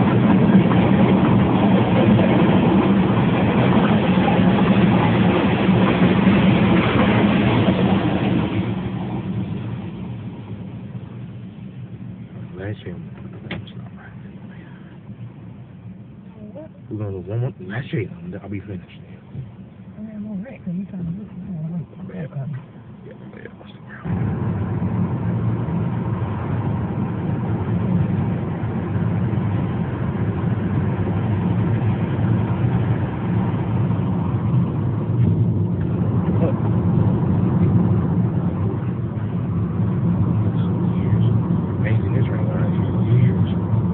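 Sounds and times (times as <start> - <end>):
car engine hum: 0.0 - 43.9.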